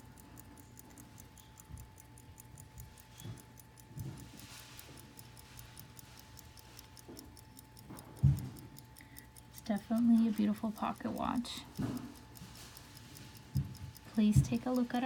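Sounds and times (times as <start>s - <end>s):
pocket watch ticking: 0.0s - 15.0s.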